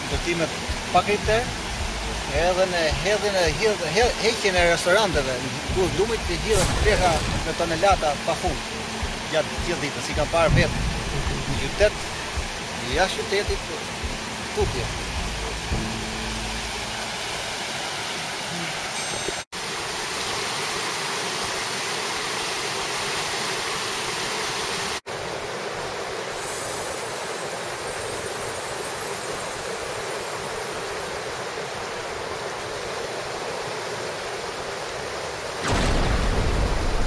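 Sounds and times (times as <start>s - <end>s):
river rushing over stones: 0.0s - 37.0s.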